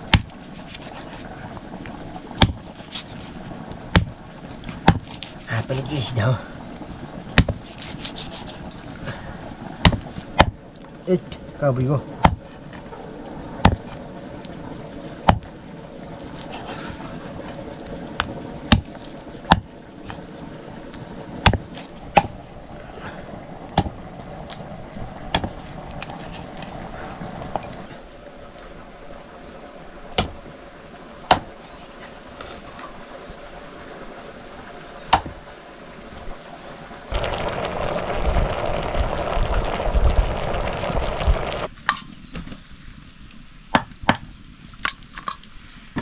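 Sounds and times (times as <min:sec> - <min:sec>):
steady background hiss: 0:00.0 - 0:46.0.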